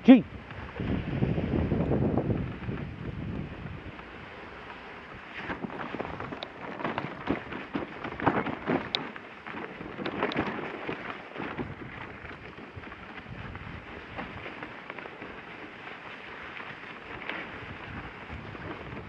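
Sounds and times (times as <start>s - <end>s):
sled knocking and rattling: 0.4s - 19.0s
sled runners scraping on snow: 0.4s - 19.0s.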